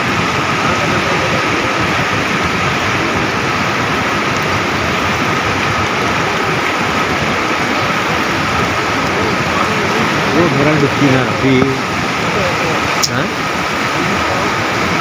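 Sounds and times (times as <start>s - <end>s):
floodwater flowing through street: 0.0s - 15.0s
heavy rain: 0.0s - 15.0s.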